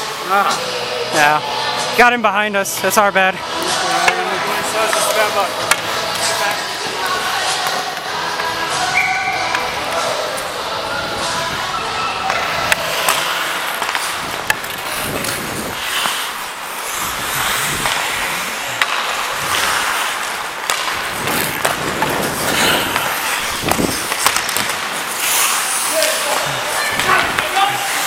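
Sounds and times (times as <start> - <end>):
hockey sticks and puck clacking: 2.8 - 28.0
skate blades scraping on ice: 3.4 - 28.0.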